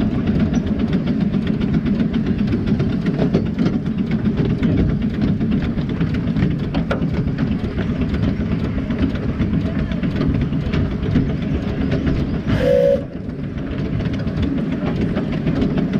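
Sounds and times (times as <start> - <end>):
wheels rumbling on rail: 0.0 - 15.9.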